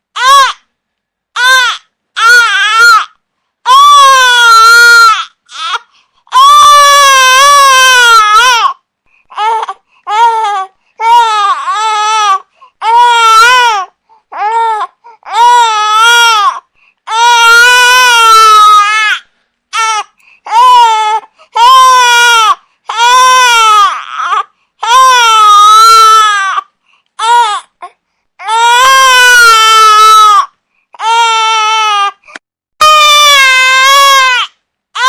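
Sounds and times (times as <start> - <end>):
infant crying: 0.2 - 0.6, 1.4 - 35.0.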